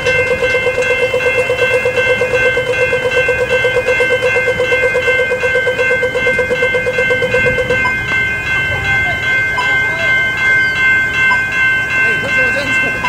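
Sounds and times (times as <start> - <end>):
level crossing bell strokes: 0.0 - 13.0
steady ringing tones: 0.0 - 13.0.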